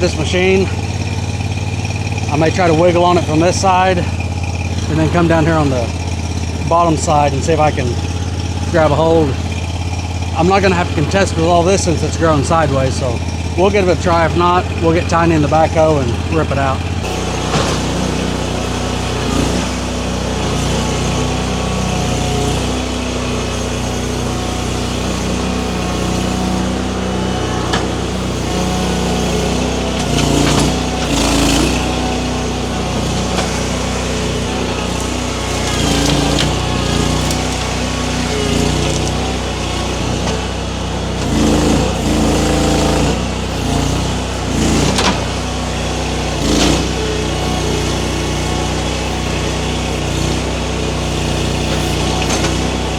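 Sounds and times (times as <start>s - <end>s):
skid steer engine under load: 0.0s - 52.9s.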